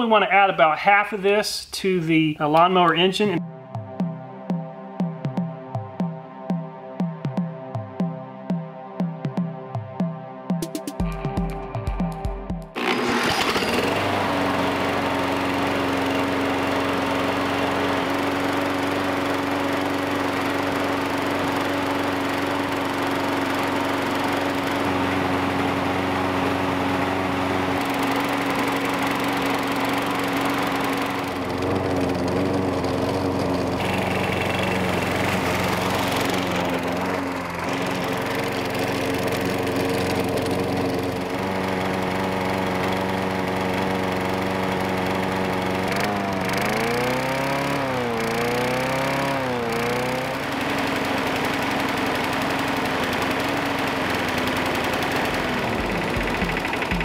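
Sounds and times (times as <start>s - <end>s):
lawn mower engine surging: 0.0s - 57.0s.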